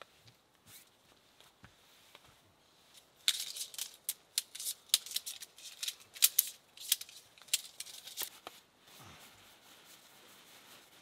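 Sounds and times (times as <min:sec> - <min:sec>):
camping gear rustling and crinkling: 0:00.0 - 0:11.0.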